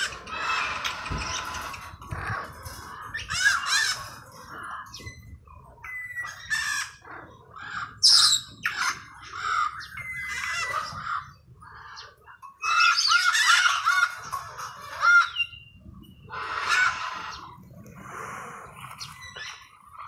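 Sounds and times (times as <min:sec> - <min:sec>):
parrots squawking and chattering: 0:00.0 - 0:20.0.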